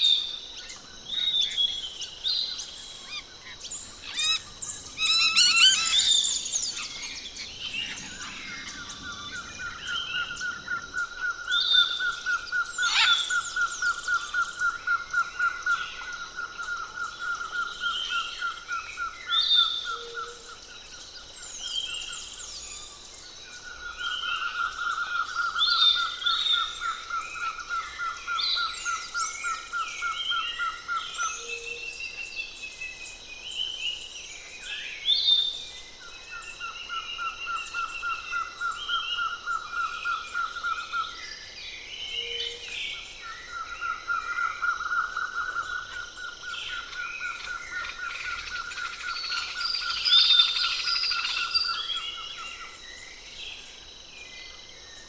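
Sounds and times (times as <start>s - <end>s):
birds chirping and whistling: 0.0s - 20.4s, 23.7s - 53.6s.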